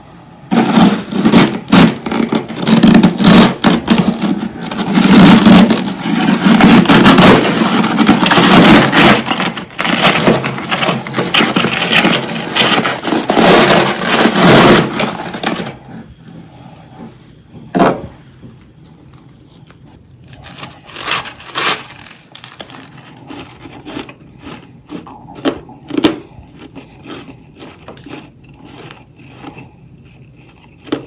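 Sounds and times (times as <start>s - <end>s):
frost crunching: 0.5s - 15.8s, 19.0s - 29.7s.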